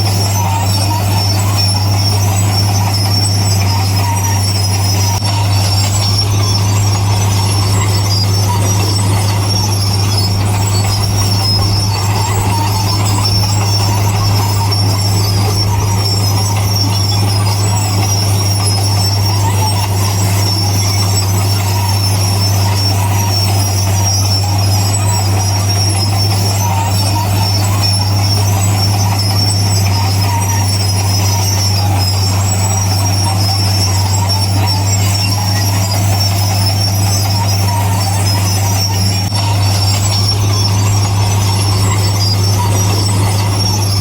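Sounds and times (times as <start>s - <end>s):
diesel engine droning: 0.0s - 44.0s
steel tracks squealing: 0.0s - 44.0s.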